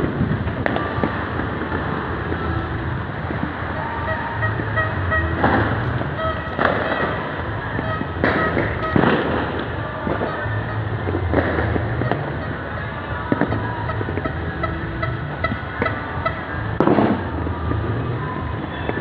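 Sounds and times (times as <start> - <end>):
distant fireworks popping: 0.0 - 19.0
loud firework bangs: 0.0 - 19.0.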